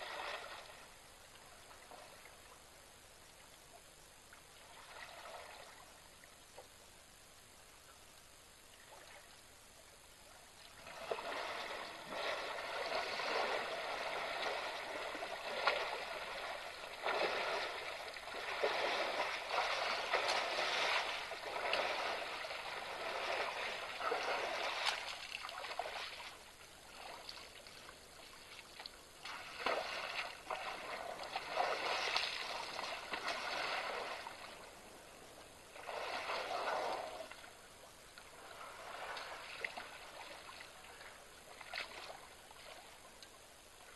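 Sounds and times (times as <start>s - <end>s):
water splashing and sloshing: 0.0s - 6.8s, 10.4s - 43.9s.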